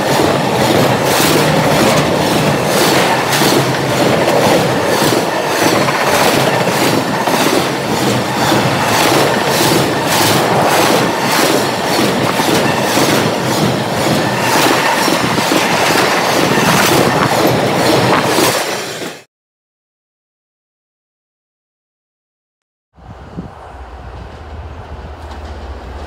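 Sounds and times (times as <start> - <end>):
freight train wheels clacking on rails: 0.0 - 19.3, 23.8 - 26.0.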